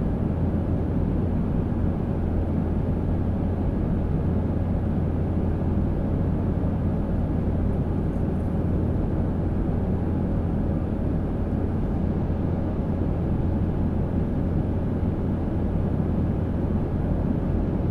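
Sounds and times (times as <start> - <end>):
faint constant hum: 0.0 - 17.9
jet engine and airflow rumble: 0.0 - 17.9.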